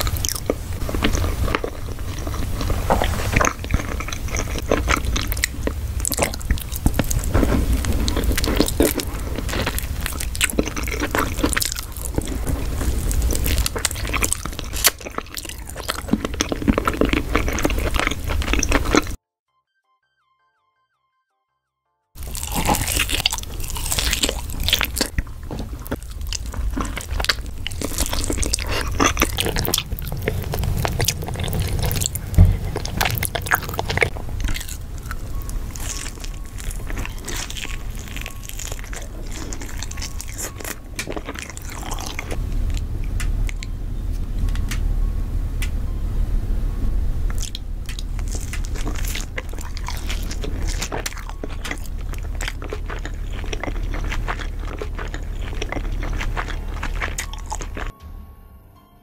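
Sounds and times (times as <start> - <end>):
biting and chewing rib: 0.0 - 19.2, 22.2 - 44.8, 47.3 - 57.9
crunching fried chicken: 0.0 - 19.2, 22.2 - 44.8, 47.2 - 57.9.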